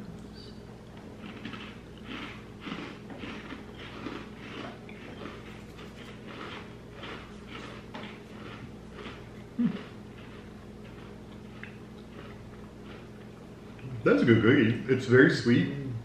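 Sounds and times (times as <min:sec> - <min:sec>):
crunchy cookie chewing: 0:00.8 - 0:14.0.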